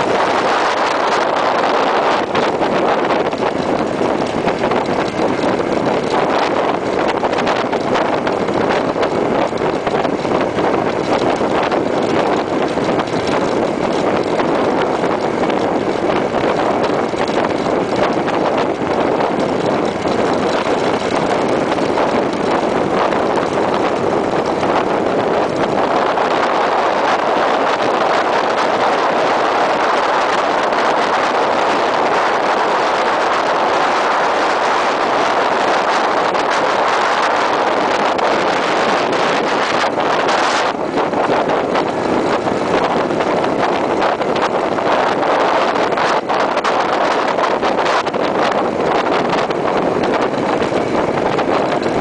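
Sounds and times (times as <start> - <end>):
motorcycle engine: 0.0 - 52.0
wind rushing over camera: 0.0 - 52.0.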